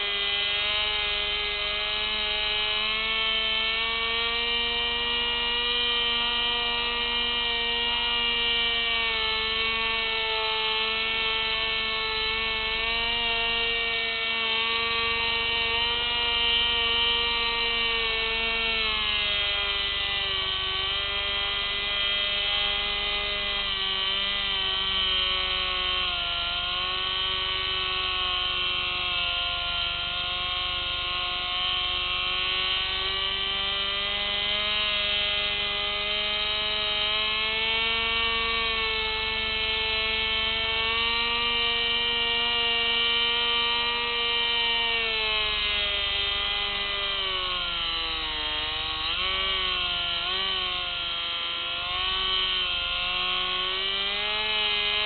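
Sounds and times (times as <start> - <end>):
electric motor and propeller whining: 0.0 - 55.0.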